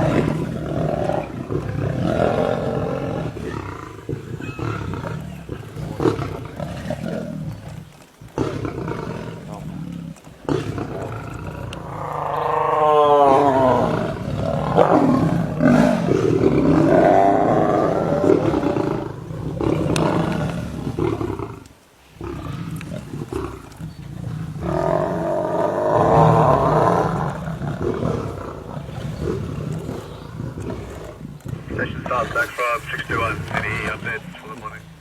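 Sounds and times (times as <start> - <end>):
lions roaring: 0.0 - 35.0.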